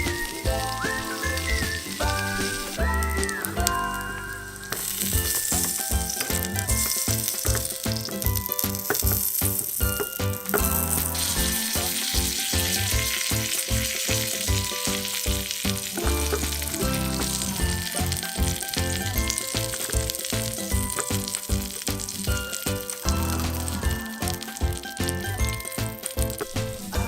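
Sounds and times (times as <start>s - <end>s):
background music with steady beat: 0.0s - 27.0s
food sizzling in a pan: 0.0s - 27.0s.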